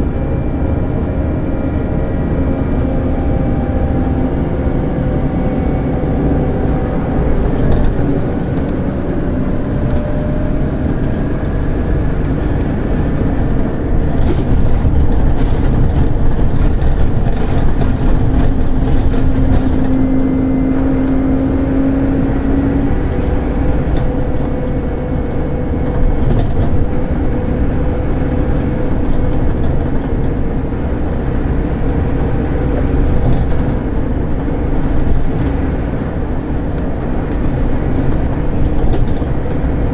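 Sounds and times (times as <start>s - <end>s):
bus diesel engine straining: 0.0s - 39.9s.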